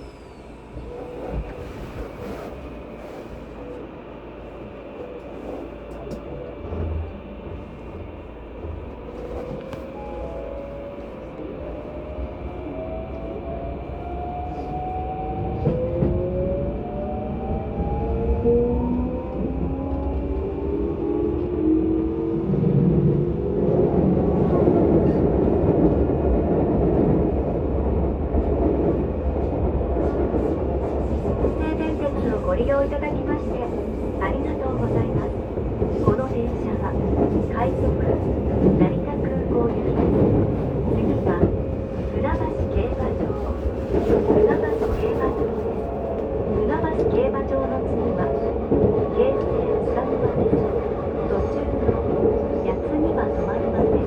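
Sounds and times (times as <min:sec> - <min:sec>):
train motors and wheels rumbling: 0:00.0 - 0:54.0.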